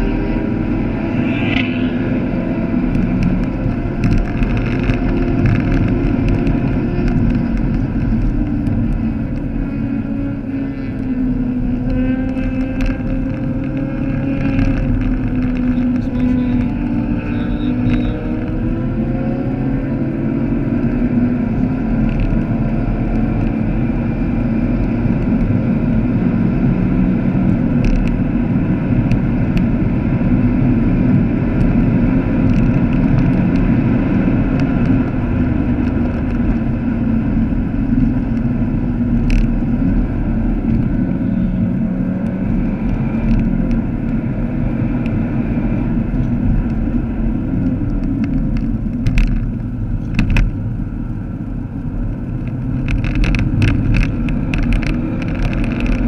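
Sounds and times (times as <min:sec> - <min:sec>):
car engine running at speed: 0:00.0 - 0:56.0
tyre and road noise: 0:00.0 - 0:56.0.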